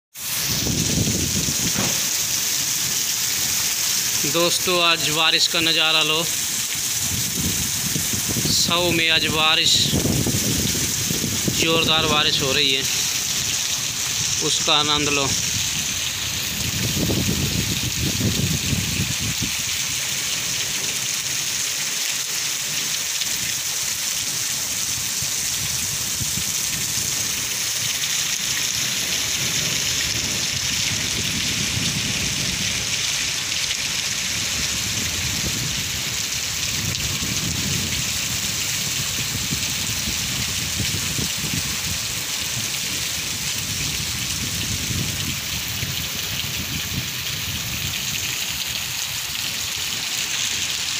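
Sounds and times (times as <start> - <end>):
heavy rain: 0.1 - 50.9.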